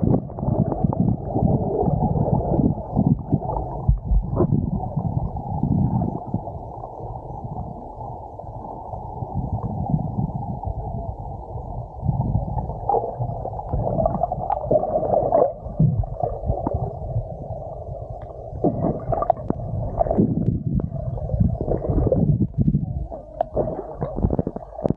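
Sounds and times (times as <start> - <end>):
bubbly swells: 0.0 - 8.0, 8.7 - 24.9
underwater rumble and gurgling: 0.0 - 24.9.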